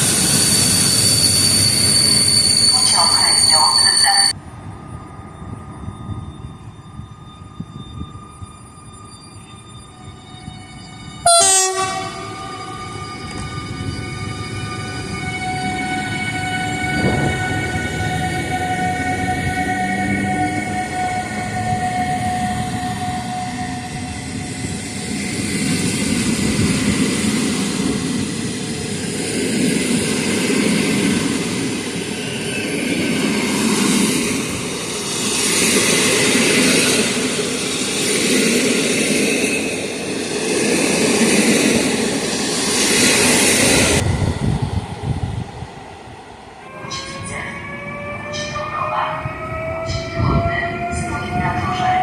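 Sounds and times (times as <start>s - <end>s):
train wheels rumbling on track: 0.0s - 8.8s, 11.0s - 52.0s.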